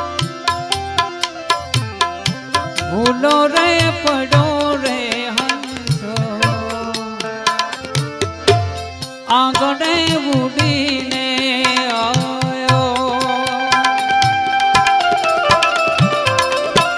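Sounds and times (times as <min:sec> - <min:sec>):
tabla playing quick beat: 0:00.0 - 0:16.9.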